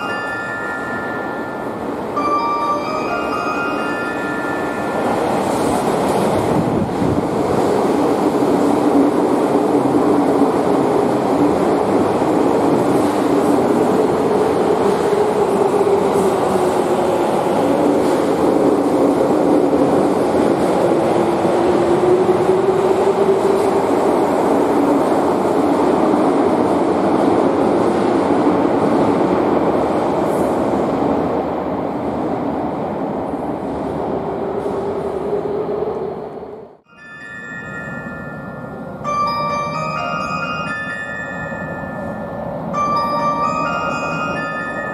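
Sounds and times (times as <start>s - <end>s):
subway train running: 0.0s - 44.9s.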